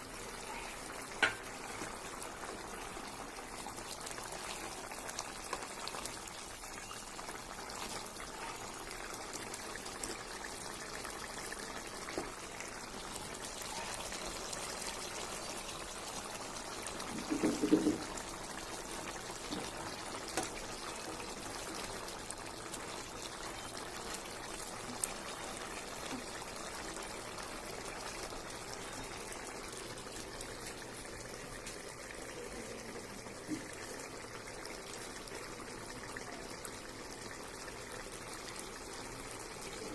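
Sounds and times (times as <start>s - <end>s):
curry bubbling in a pan: 0.0s - 39.9s.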